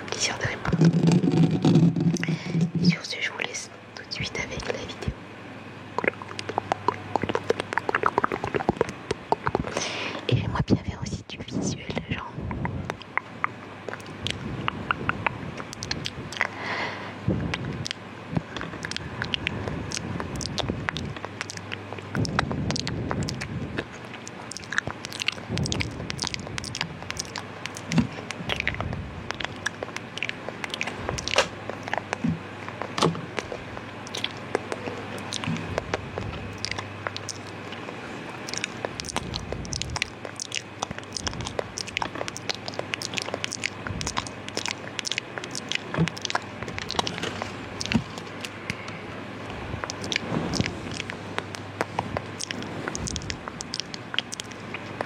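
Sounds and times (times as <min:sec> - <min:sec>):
wet mouth clicks and smacks: 0:00.0 - 0:03.0, 0:04.2 - 0:05.1, 0:06.0 - 0:10.5, 0:12.8 - 0:16.6, 0:17.5 - 0:48.9, 0:49.5 - 0:55.0.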